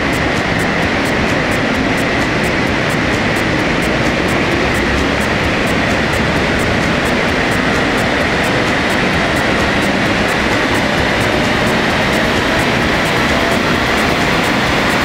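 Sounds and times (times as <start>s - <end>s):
diesel engine on dyno rollers: 0.0s - 15.0s
fast even ticking: 0.0s - 15.0s.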